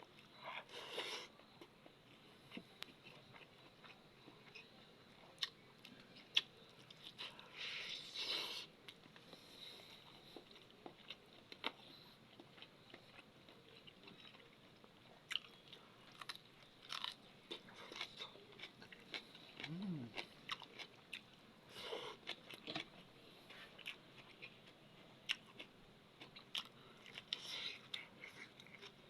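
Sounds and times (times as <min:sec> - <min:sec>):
person chewing food: 0:00.1 - 0:29.0.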